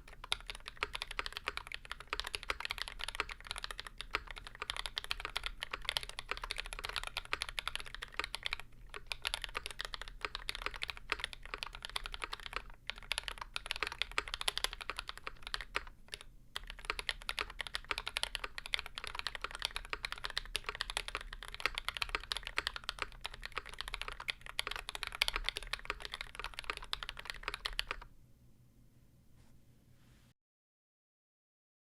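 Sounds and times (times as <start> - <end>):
typing on mechanical keyboard: 0.0 - 28.1.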